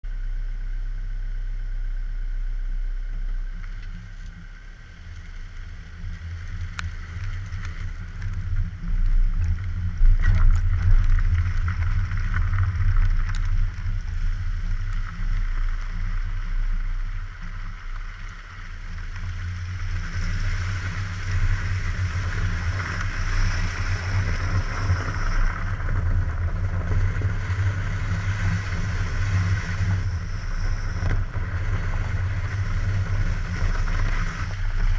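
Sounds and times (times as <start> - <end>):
car engine drone: 0.0 - 34.9
wind: 0.0 - 34.9.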